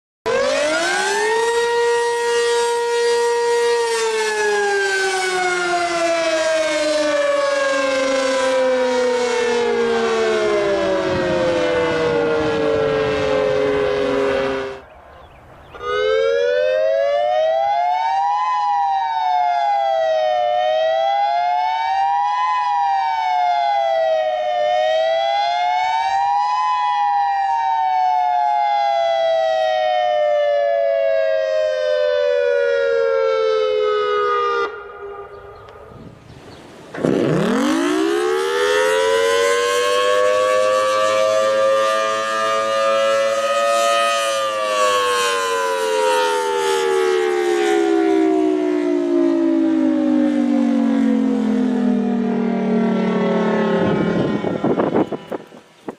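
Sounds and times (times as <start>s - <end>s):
two-tone warning siren wailing: 0.2s - 15.1s, 15.7s - 55.9s
siren winding up and down: 0.3s - 14.8s, 15.7s - 36.0s, 37.0s - 55.9s.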